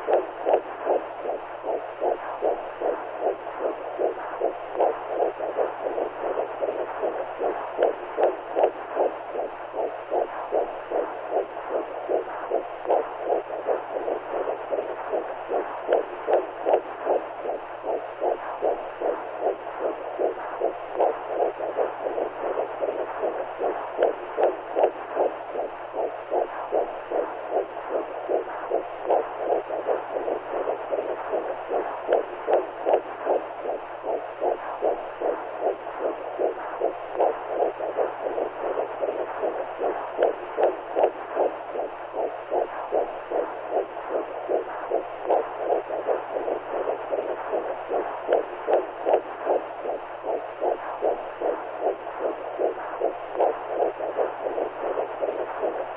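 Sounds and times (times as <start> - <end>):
low hum: 0.0 - 55.9.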